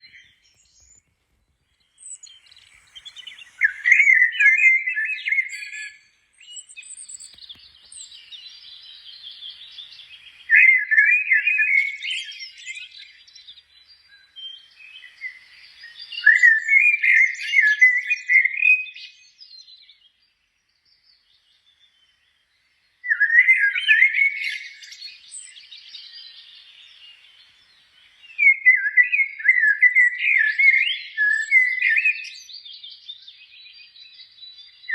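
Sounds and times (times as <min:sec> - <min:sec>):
songbird twittering: 0:00.0 - 0:34.9.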